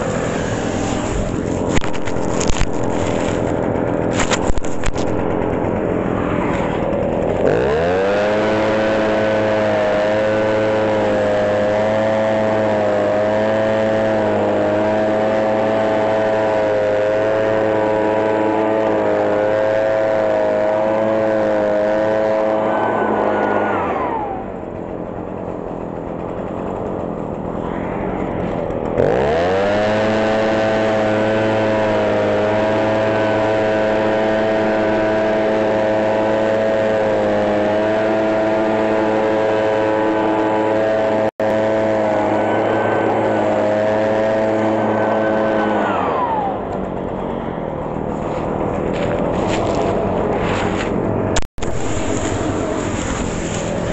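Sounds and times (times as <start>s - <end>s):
leaf blower engine revving: 0.0s - 53.9s.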